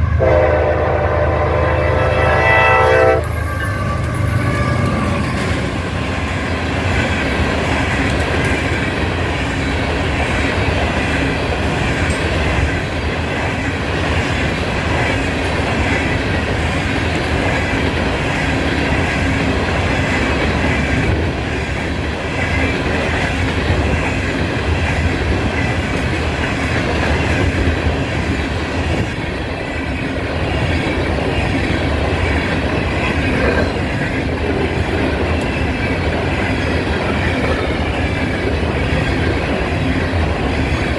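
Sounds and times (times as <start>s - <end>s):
freight train rumbling past: 0.0s - 40.9s
wheels clicking over rail joints: 3.2s - 40.9s.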